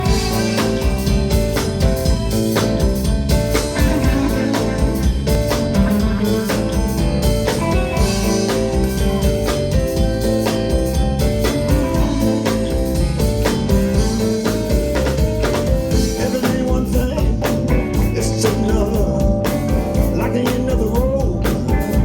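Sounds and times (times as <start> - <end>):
bass guitar: 0.0 - 22.0
drum kit steady beat: 0.0 - 22.0
electric guitar: 0.0 - 22.0.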